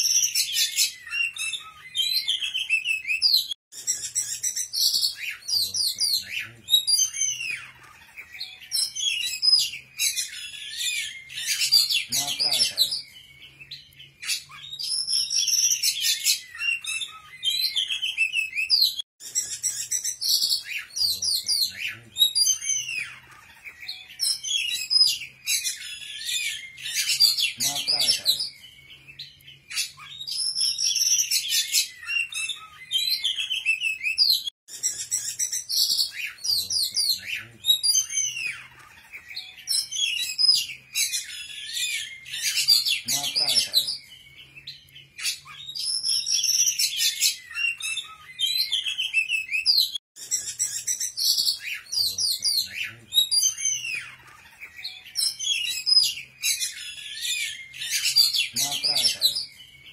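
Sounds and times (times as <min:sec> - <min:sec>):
songbird chirps and trills: 0:00.0 - 0:59.9.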